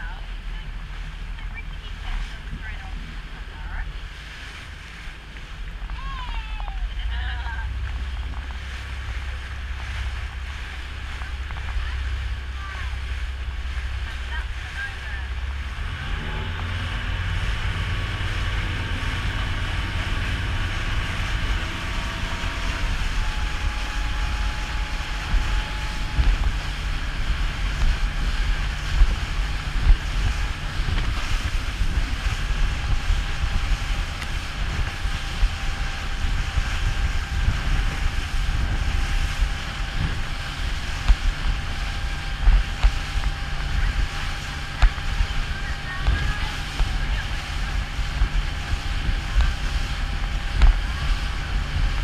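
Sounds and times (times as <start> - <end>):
motorboat engine whine: 0.0 - 52.0
water rushing and splashing: 0.0 - 52.0
wind buffeting microphone: 0.0 - 52.0.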